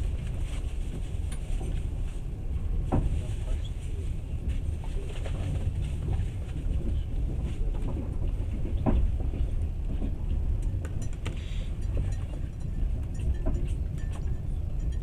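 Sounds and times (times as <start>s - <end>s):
train carriage rumbling on rails: 0.0s - 15.0s.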